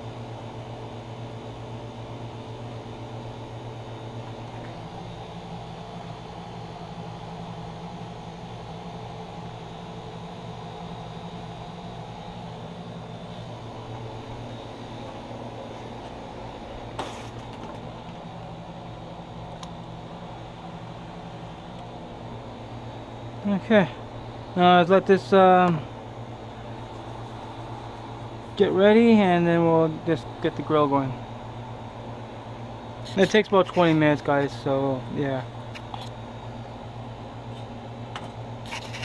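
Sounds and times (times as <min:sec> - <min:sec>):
mechanical fan hum: 0:00.0 - 0:39.0.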